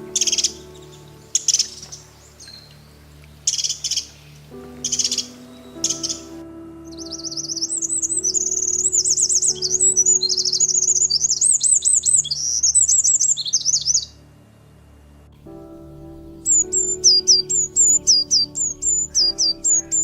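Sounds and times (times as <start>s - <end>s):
songbird warbling: 0.0s - 14.2s, 16.2s - 20.0s
soft background music: 0.0s - 20.0s.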